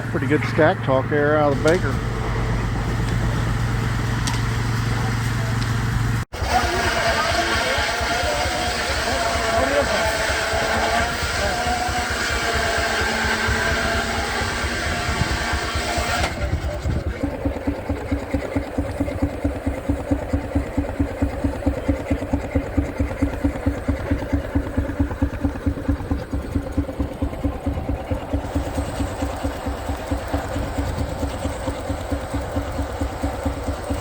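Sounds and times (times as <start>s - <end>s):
running rumble: 0.0s - 34.0s
steam engine exhaust chuffing: 0.0s - 34.0s.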